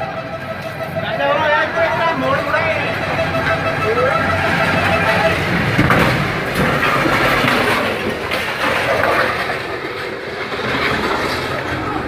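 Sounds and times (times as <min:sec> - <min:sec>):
heavy vehicle rumbling and rattling: 0:00.0 - 0:12.0.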